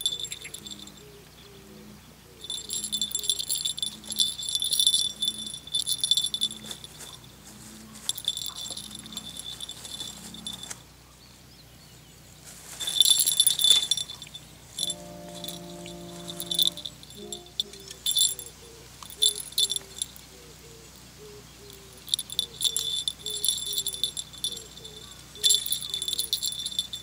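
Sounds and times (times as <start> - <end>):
jingle bell cat toy jingling: 0.0 - 1.1, 2.4 - 7.4, 8.0 - 10.8, 12.7 - 20.3, 21.7 - 27.0.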